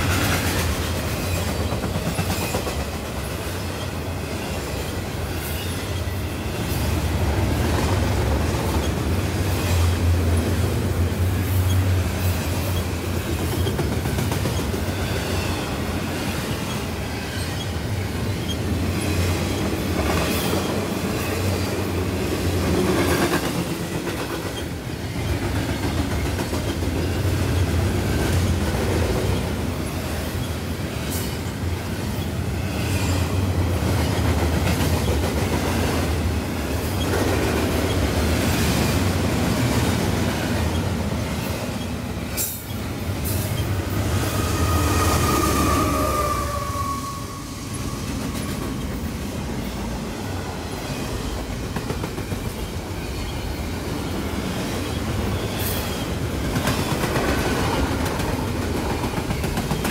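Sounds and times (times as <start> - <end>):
train wheels clicking over rails: 0.0 - 46.5, 47.8 - 59.9
freight train rumbling: 0.0 - 59.9.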